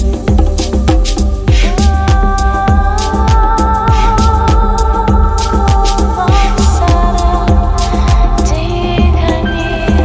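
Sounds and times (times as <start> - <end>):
crisp high percussion: 0.0 - 10.0
deep electronic kick drum: 0.0 - 10.0
downtempo world music: 0.0 - 10.0.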